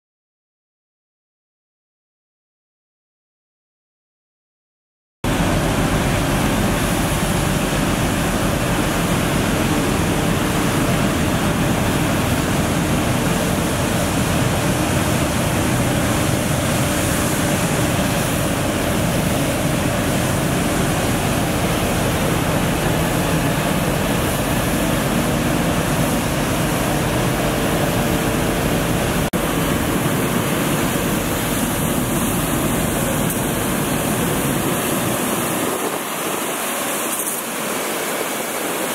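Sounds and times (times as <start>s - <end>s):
street sweeper truck rushing noise: 5.3s - 38.9s.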